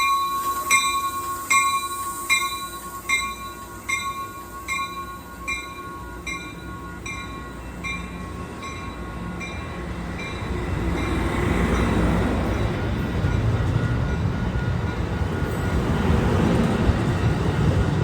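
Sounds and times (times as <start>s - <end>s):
railroad crossing bell ringing: 0.0s - 18.0s
train rumbling: 0.0s - 18.0s.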